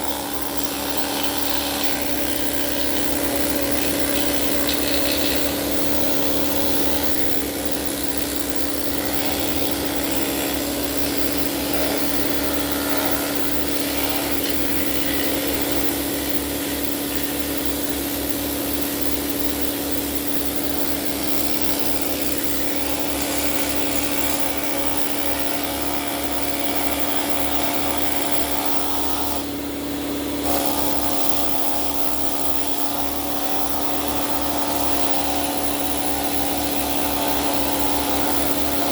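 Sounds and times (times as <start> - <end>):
pneumatic needle scaler chattering: 0.0 - 38.9.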